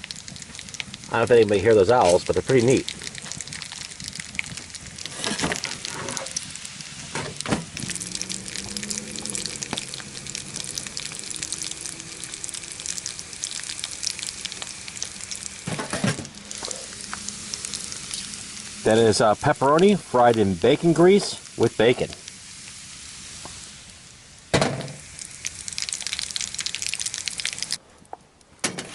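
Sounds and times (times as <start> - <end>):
meat sizzling in a pan: 0.0 - 27.8.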